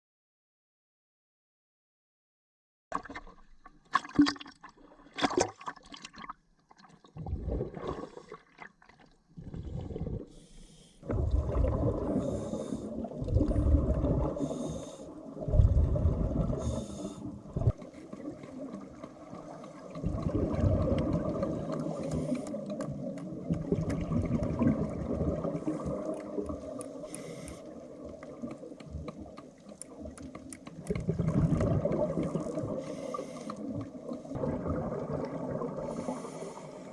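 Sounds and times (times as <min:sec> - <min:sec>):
water bubbling and gurgling: 0:02.9 - 0:36.9.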